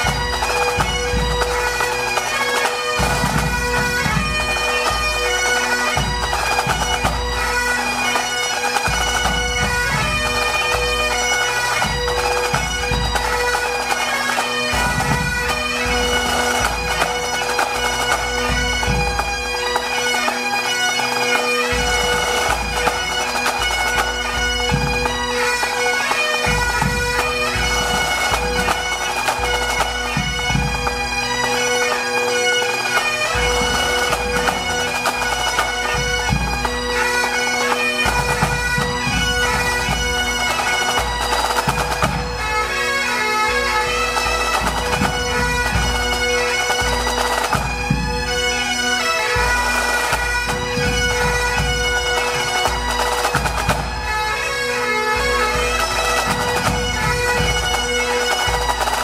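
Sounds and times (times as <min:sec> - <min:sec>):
bagpipes playing melody: 0:00.0 - 0:59.0.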